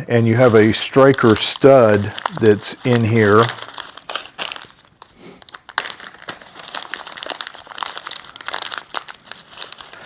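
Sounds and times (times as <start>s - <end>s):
plastic packaging crinkling: 0.1s - 10.0s.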